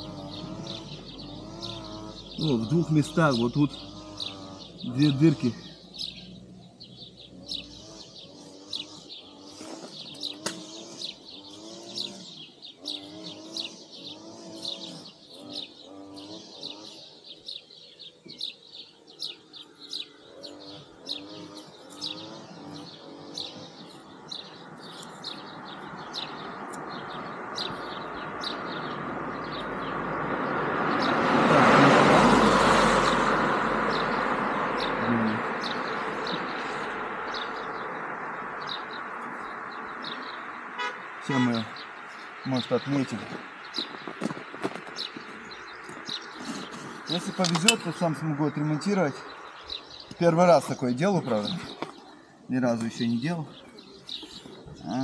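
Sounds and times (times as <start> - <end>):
vehicle passing by: 0.0 - 17.6, 19.2 - 51.8
small birds chirping: 0.0 - 55.0.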